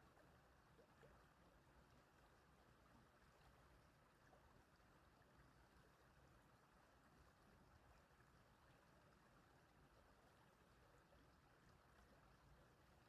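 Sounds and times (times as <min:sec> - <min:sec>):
small stream running: 0:00.0 - 0:13.0.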